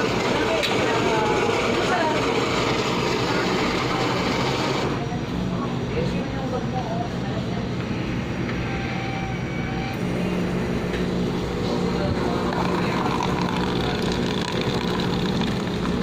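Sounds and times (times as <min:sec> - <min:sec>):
coffee machine motor humming: 0:00.0 - 0:06.6, 0:07.8 - 0:16.0.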